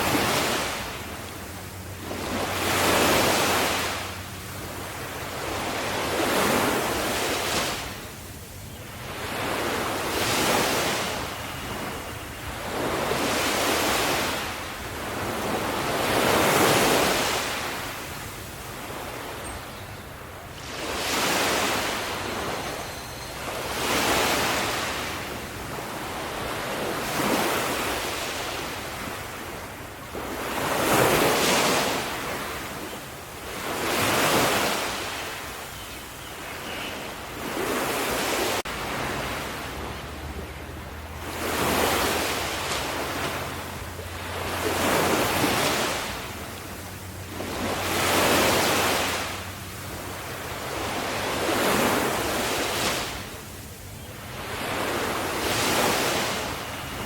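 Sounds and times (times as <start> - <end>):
sea waves breaking: 0.0 - 35.8, 36.4 - 57.0.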